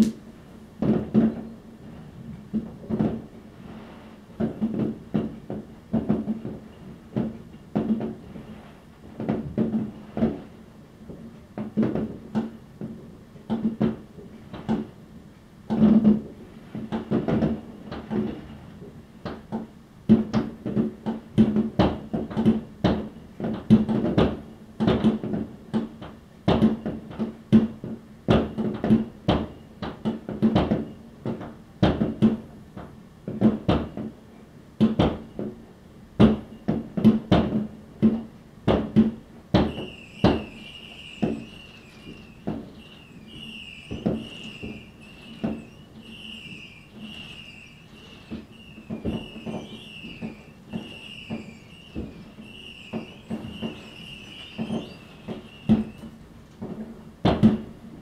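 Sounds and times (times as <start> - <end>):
fireworks bangs and cracks: 0.8 - 14.9, 15.7 - 32.6, 36.2 - 57.8.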